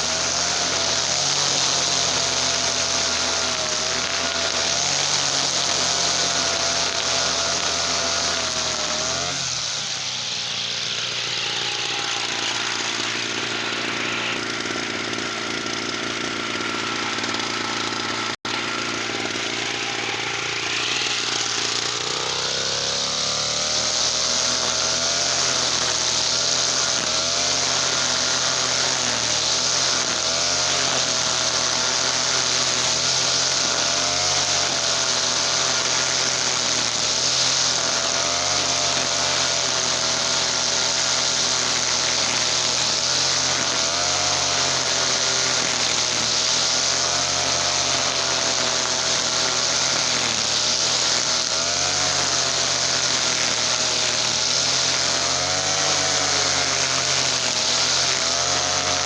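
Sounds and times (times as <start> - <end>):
brush cutter engine revving: 0.0 - 59.0.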